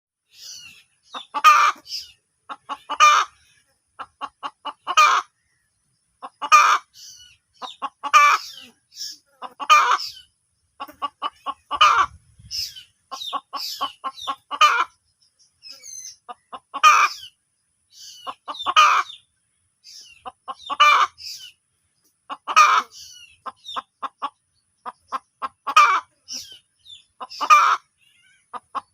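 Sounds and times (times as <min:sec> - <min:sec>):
hen cackling: 0:00.3 - 0:05.4, 0:06.2 - 0:15.0, 0:15.6 - 0:19.2, 0:19.9 - 0:21.6, 0:22.2 - 0:28.9.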